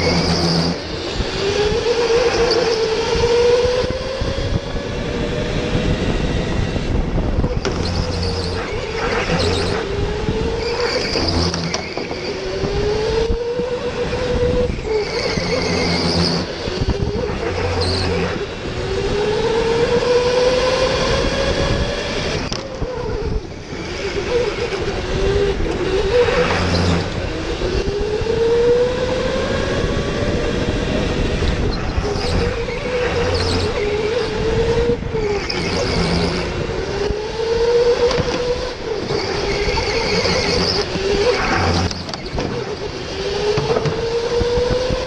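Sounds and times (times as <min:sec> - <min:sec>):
electric motor whining: 0:00.0 - 0:45.0.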